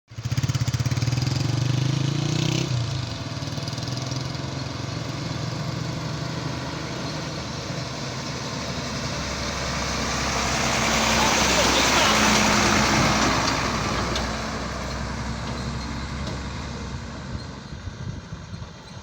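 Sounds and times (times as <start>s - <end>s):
heavy truck engine running: 2.8s - 19.0s.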